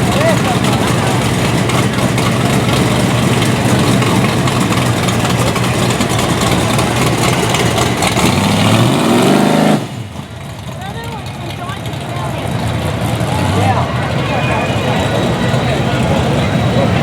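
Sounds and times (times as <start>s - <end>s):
loud car engine revving: 0.0s - 17.0s.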